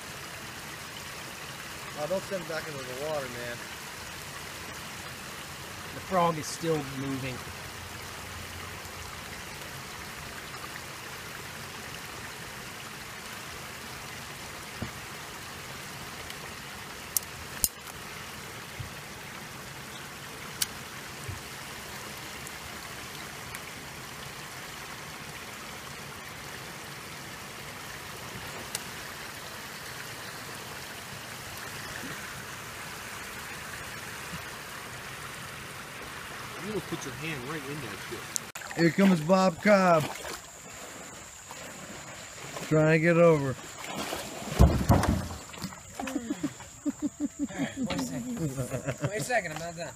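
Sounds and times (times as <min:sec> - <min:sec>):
creek water trickling: 0:00.0 - 0:49.9.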